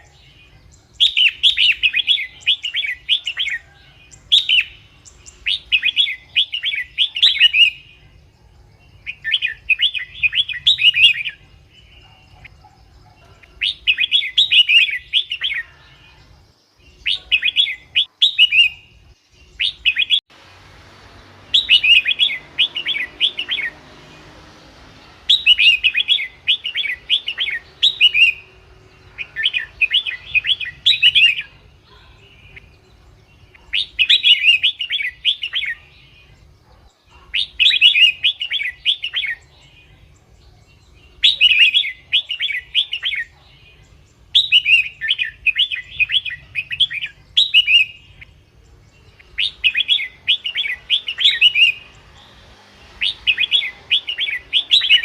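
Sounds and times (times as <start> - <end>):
bird singing warbled phrases: 0.0 - 55.0.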